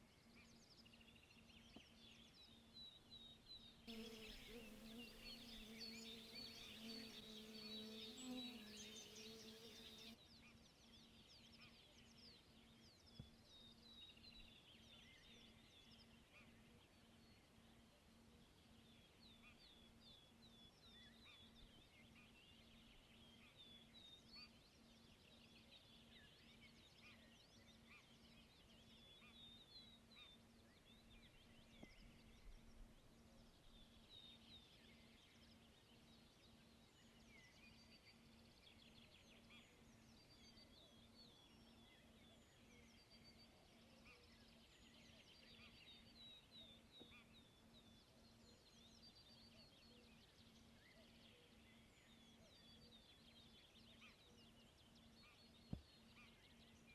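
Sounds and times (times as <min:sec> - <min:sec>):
songbirds chirping: 0:00.1 - 0:56.9.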